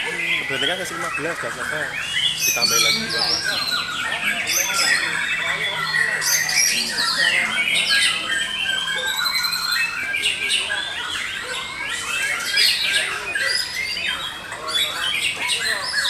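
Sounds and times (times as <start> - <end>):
songbirds whistling and trilling: 0.0 - 16.0.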